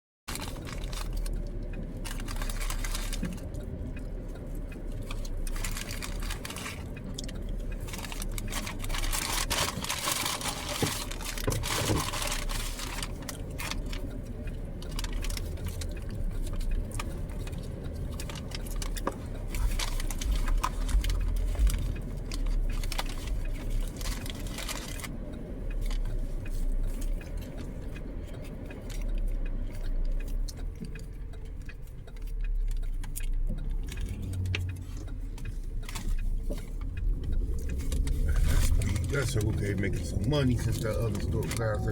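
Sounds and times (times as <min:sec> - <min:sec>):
rustling and crinkling: 0:00.3 - 0:41.9
steady low hum: 0:00.5 - 0:41.9.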